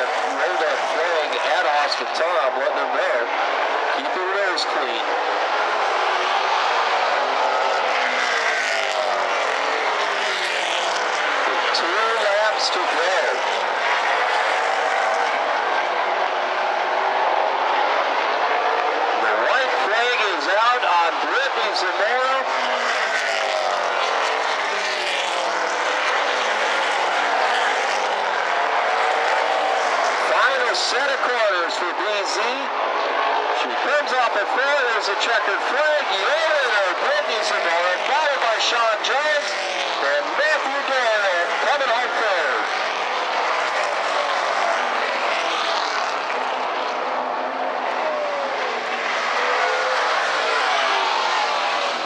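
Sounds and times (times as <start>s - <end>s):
race car engines passing: 0.0s - 52.0s.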